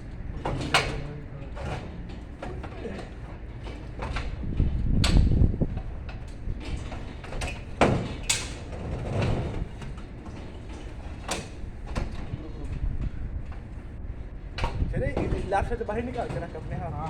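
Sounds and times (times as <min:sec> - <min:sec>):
air conditioner unit knocking and scraping: 0:00.0 - 0:17.0
low rumbling handling noise: 0:00.0 - 0:17.0.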